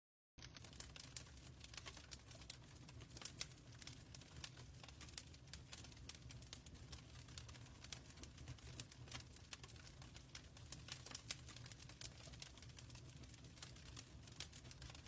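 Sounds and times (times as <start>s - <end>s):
wood fire crackling: 0.4s - 15.0s.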